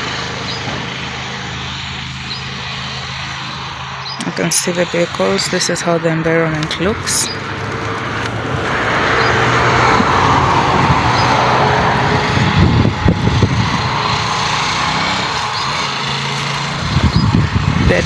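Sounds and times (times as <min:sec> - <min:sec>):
vehicle driving past: 0:00.0 - 0:18.0.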